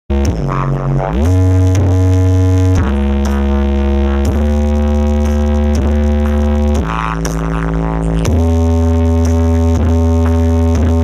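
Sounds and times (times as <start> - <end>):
loud synthesizer music with heavy bass: 0.1 - 11.0.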